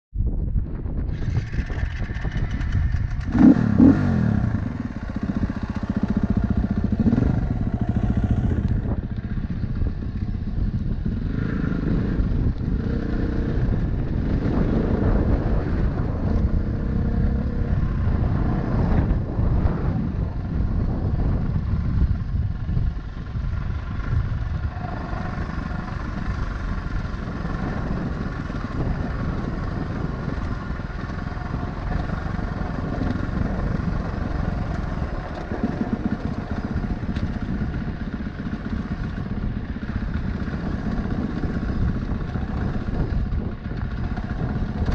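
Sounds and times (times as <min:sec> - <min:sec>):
off-road vehicle engine running: 0:00.3 - 0:44.9.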